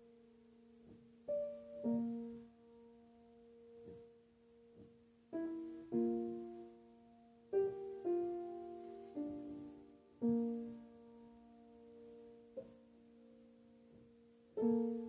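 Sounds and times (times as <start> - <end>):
solo jazz piano chords: 0.0 - 15.0.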